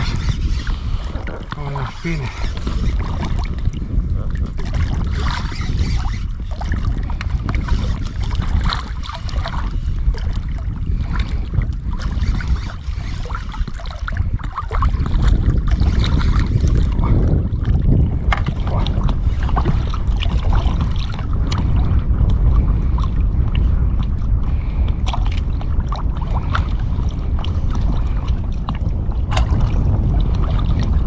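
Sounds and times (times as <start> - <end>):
water lapping against boat: 0.0 - 31.0
wind buffeting microphone: 0.0 - 31.0.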